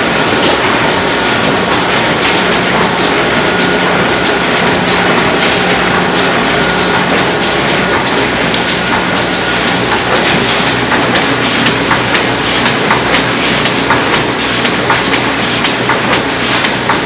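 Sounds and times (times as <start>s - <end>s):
printing press clattering: 0.0s - 17.0s.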